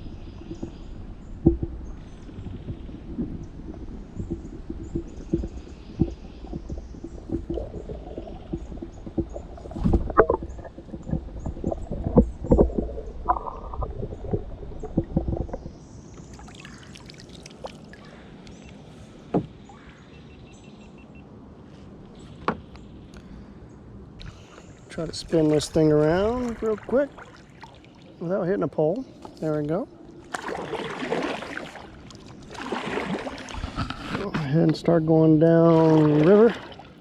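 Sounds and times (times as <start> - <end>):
light water splashing: 0.0 - 19.9, 24.2 - 37.0
water sloshing around kayak: 0.0 - 20.3, 24.2 - 37.0.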